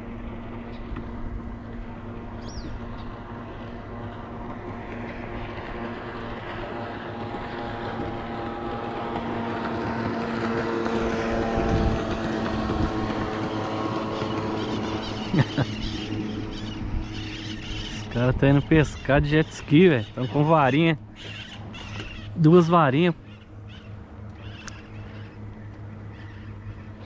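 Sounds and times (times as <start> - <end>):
jet ski engine running: 0.0 - 27.0.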